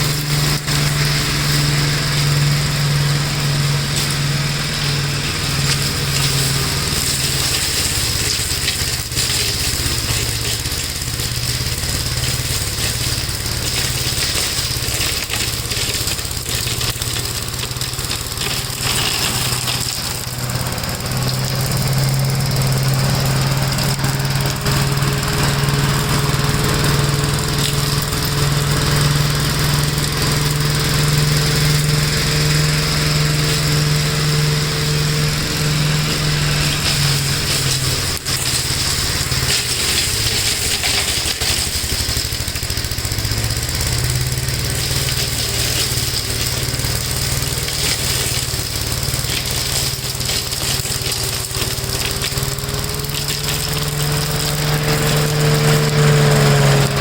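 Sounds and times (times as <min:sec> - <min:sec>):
walk-behind tractor engine running: 0:00.0 - 0:57.0.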